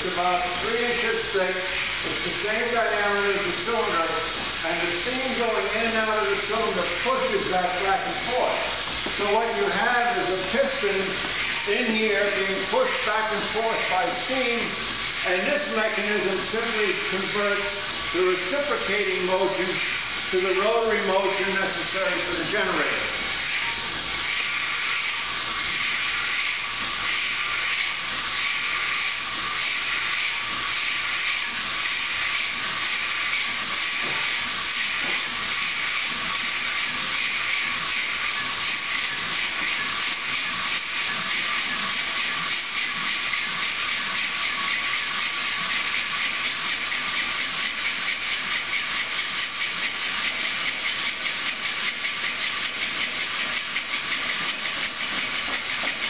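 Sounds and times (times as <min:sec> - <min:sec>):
steam engine hissing and pulsing: 0:00.0 - 0:56.0.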